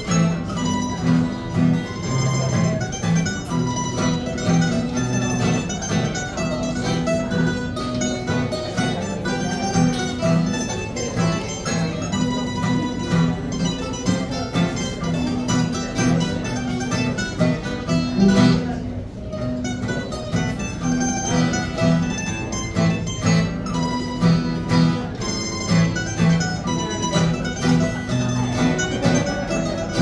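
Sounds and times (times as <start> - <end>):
acoustic guitars playing chords: 0.0 - 30.0
mandolin playing: 0.0 - 30.0.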